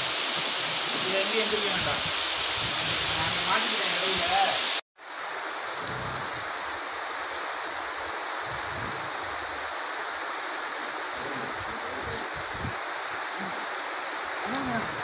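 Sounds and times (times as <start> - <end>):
heavy rain on road and trees: 0.0 - 15.0.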